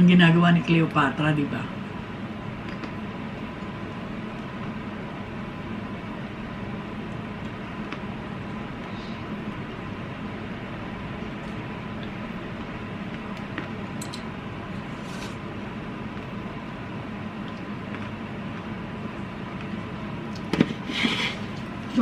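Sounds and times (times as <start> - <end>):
fan hum and hiss: 0.0 - 22.0.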